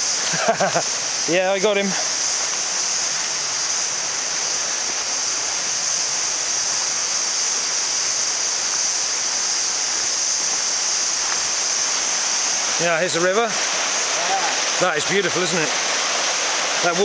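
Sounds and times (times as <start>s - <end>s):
high-pitched hiss: 0.0s - 17.0s
river water rushing: 0.0s - 17.0s.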